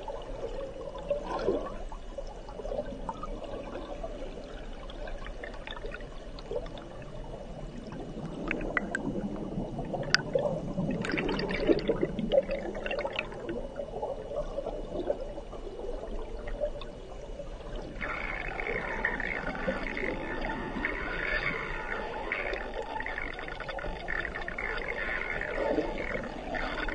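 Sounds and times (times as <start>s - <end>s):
underwater river water rushing: 0.0s - 26.9s.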